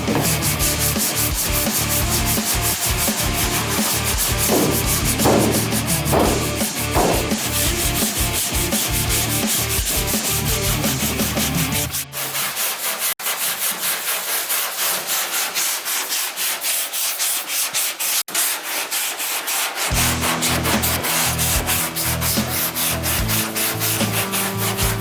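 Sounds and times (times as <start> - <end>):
sanding on car bodywork: 0.0 - 25.0.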